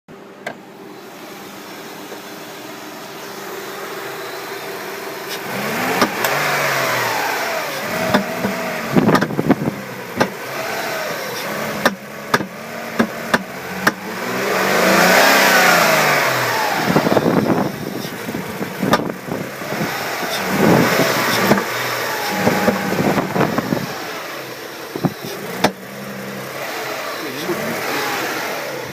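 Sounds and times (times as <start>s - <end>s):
car engine revving: 0.2s - 28.9s
engine popping and coughing: 5.3s - 28.9s.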